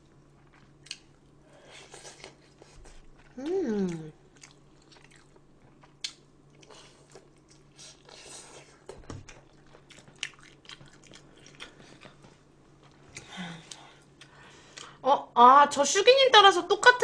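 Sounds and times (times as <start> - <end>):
person chewing and crunching: 0.3 - 14.9.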